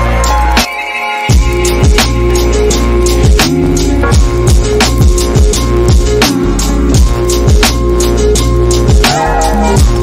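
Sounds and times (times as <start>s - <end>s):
electronic beat: 0.0s - 10.0s.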